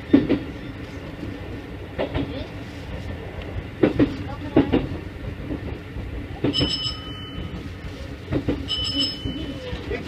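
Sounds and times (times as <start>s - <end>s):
electric train running rumble: 0.0s - 10.0s.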